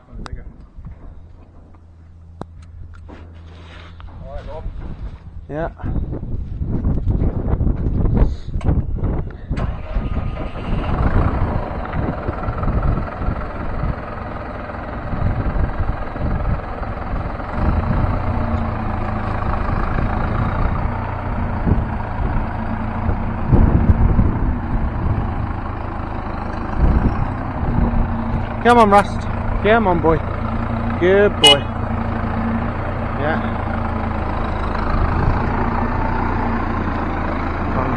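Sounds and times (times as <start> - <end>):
excavator engine running: 0.0 - 37.9.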